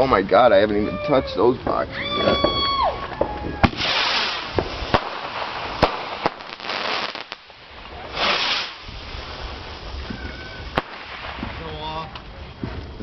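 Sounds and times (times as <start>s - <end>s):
fireworks bangs and pops: 0.0s - 13.0s
fireworks hissing: 0.0s - 13.0s.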